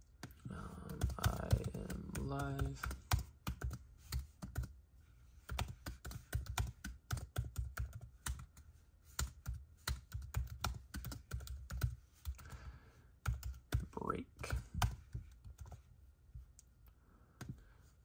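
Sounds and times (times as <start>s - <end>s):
laptop keyboard typing: 0.0s - 4.8s, 5.4s - 15.9s.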